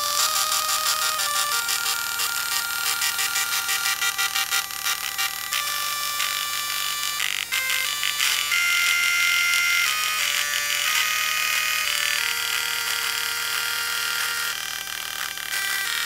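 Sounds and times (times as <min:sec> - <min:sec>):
dot matrix printer melody: 0:00.0 - 0:16.0.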